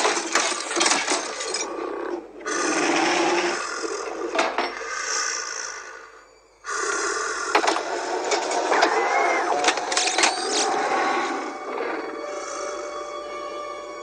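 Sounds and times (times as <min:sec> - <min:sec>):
low creature growls: 0:01.4 - 0:13.6.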